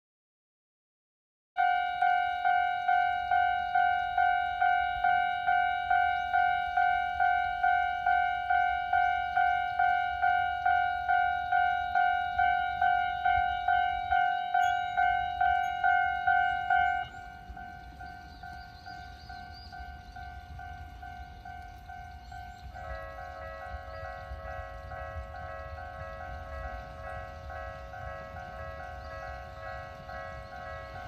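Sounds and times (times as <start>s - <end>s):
level crossing warning bell: 1.6s - 31.0s.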